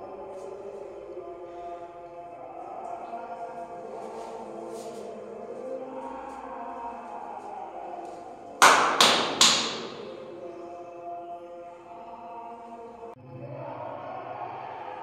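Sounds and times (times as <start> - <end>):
devotional chanting music: 0.0 - 15.0.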